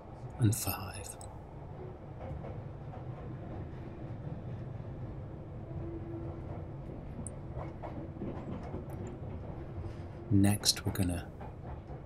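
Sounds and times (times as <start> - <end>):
moving train rumble inside carriage: 0.0 - 12.0.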